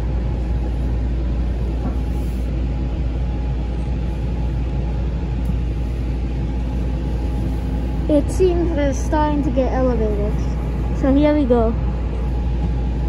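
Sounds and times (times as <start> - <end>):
faint constant hum: 0.0 - 13.0
train wheels rumbling: 0.0 - 13.0.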